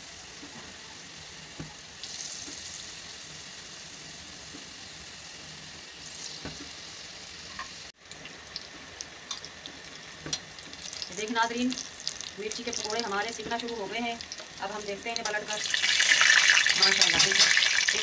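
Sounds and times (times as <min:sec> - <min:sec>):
food deep-frying in oil: 0:00.0 - 0:18.0.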